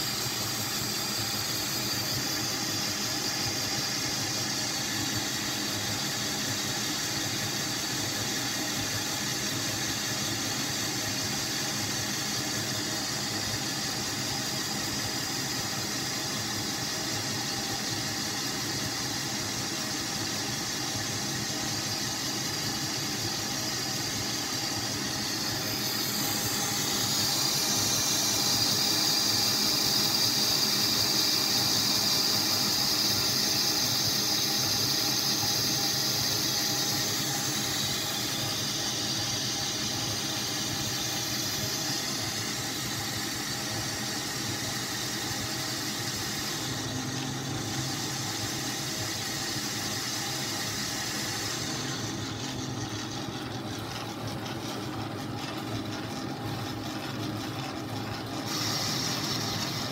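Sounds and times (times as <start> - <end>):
metal lathe running: 0.0 - 59.9.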